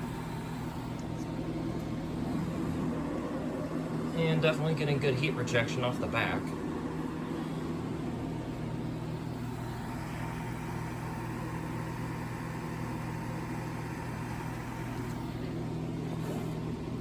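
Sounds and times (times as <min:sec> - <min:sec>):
air conditioner compressor humming: 0:00.0 - 0:17.0.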